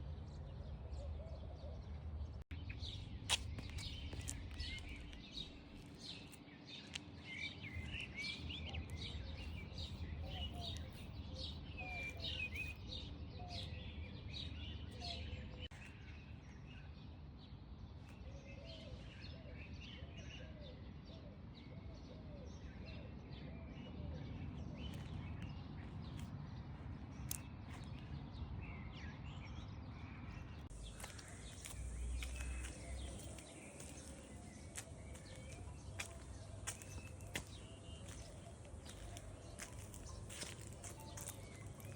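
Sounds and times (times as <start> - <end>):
small birds chirping: 0.0 - 17.0, 24.3 - 41.9.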